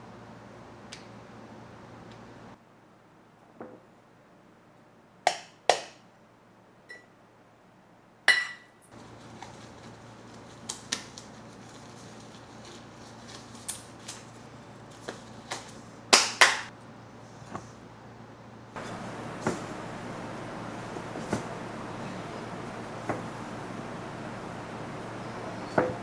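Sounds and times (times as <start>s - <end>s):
low steady hum: 4.0s - 26.0s.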